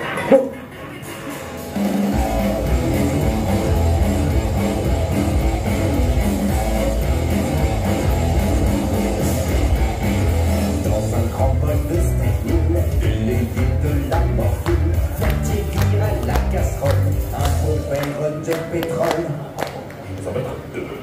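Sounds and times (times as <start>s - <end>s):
dance music with strong beat: 1.0s - 19.4s.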